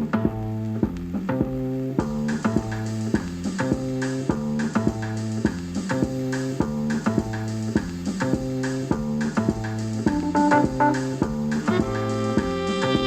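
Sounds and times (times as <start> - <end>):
acid jazz through speaker: 0.0 - 13.0.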